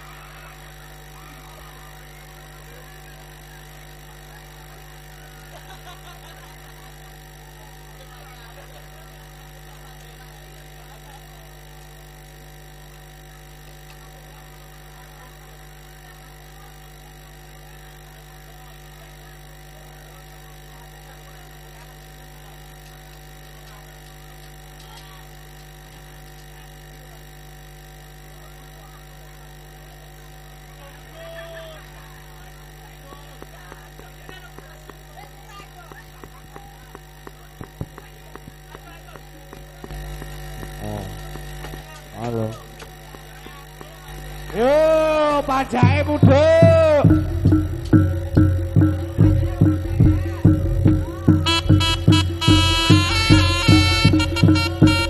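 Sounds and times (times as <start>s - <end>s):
electrical hum: 0.0s - 55.0s
faint crowd voices: 0.0s - 55.0s.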